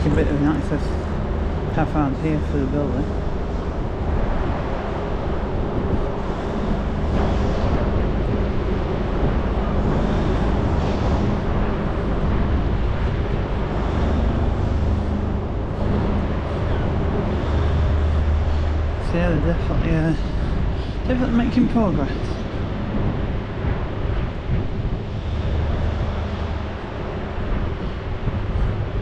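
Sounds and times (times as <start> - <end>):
low rumble with hiss: 0.0 - 29.0
wind on microphone: 0.0 - 29.0.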